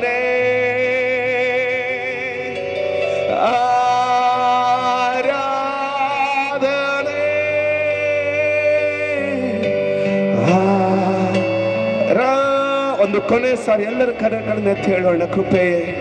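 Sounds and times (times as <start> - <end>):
held chords: 0.0 - 16.0
man singing into a microphone: 0.0 - 16.0.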